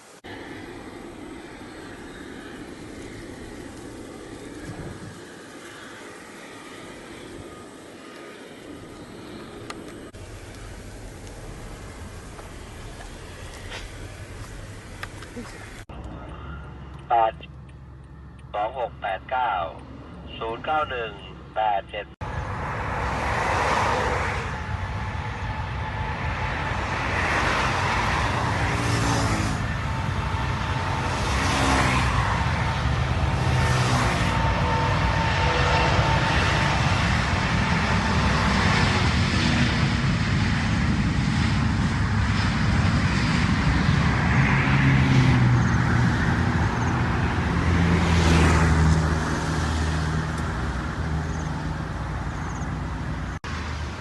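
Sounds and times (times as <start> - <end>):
vehicle engines rumbling: 0.0 - 54.0.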